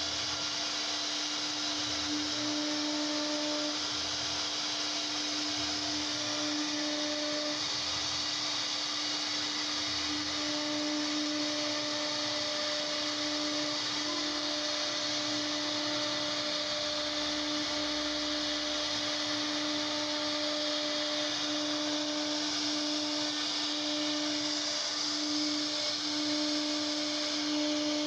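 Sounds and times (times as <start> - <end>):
router spindle high hum: 0.0 - 28.0
bit cutting wood hiss: 0.8 - 28.0.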